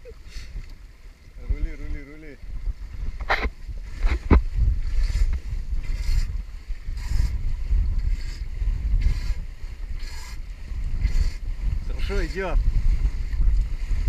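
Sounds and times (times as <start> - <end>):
boat bow slapping through waves: 0.0 - 14.0
wind buffeting microphone: 0.0 - 14.0.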